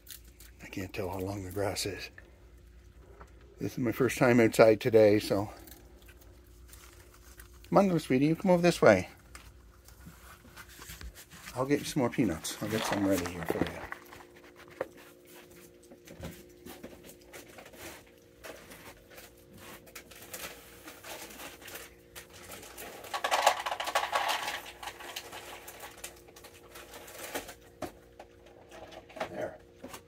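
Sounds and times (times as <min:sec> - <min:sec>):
peanuts crunching and rattling: 0:00.0 - 0:10.0, 0:11.4 - 0:15.0, 0:18.5 - 0:29.1
faint low hum: 0:00.0 - 0:30.0.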